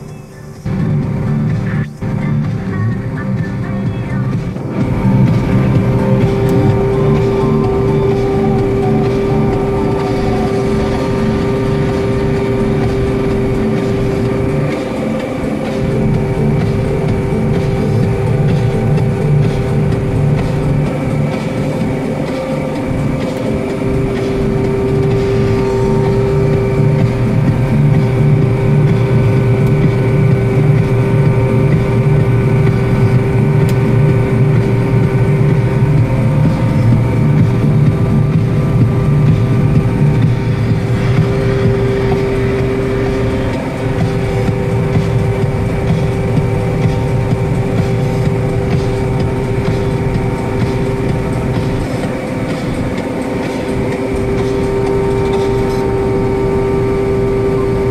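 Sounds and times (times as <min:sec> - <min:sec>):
diesel engine drone: 0:00.0 - 0:57.9
threshing machinery whine: 0:00.0 - 0:57.9.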